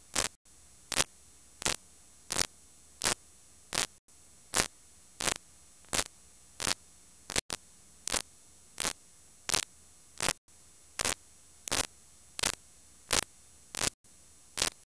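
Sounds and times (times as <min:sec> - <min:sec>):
bursts of tape static: 0:00.0 - 0:03.2, 0:03.8 - 0:04.0, 0:04.6 - 0:10.4, 0:11.0 - 0:14.0, 0:14.6 - 0:14.9
faint steady hum and hiss: 0:00.0 - 0:14.8.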